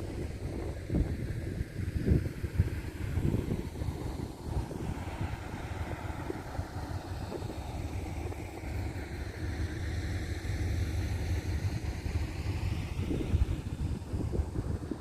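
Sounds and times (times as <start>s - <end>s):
vehicle engine rumble: 0.0s - 15.0s
whooshing wash: 0.0s - 15.0s.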